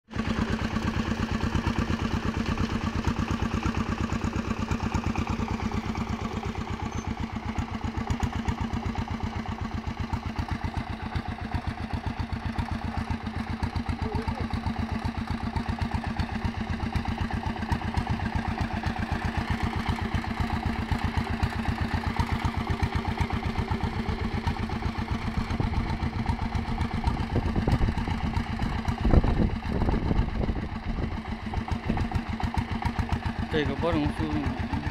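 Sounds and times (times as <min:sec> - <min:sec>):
tractor engine chugging: 0:00.1 - 0:34.9.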